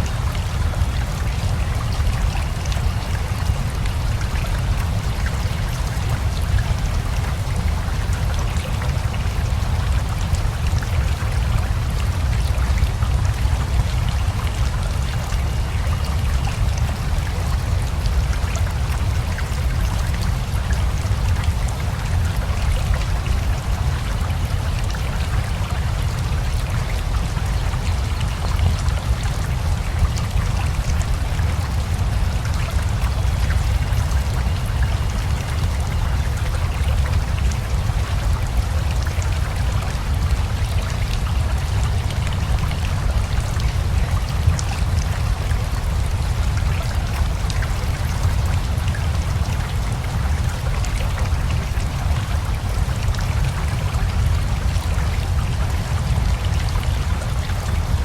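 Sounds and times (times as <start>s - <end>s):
river flowing: 0.0s - 58.0s
steady rain: 0.0s - 58.0s.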